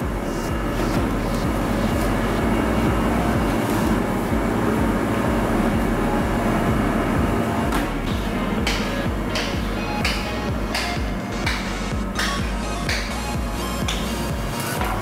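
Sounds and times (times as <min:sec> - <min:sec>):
machinery rumbling: 0:00.0 - 0:15.0.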